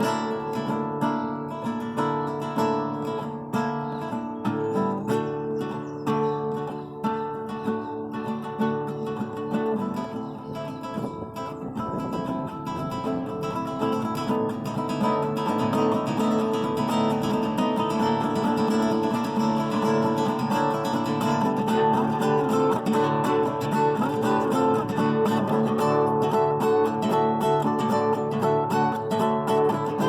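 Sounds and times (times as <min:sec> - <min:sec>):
acoustic guitar music: 0:00.0 - 0:30.0.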